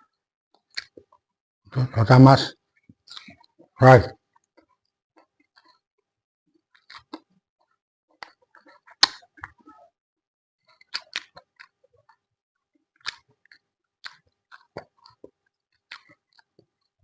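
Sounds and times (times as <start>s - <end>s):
chewing and crunching food: 0.0s - 1.4s, 2.5s - 10.0s, 10.6s - 17.0s.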